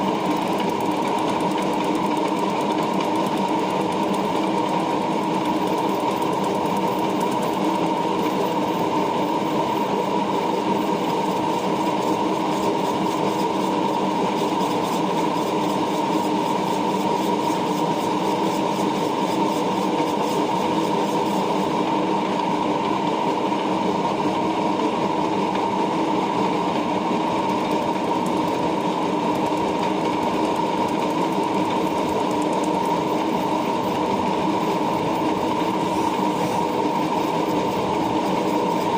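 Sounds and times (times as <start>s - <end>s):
lathe whining steadily: 0.0s - 38.9s.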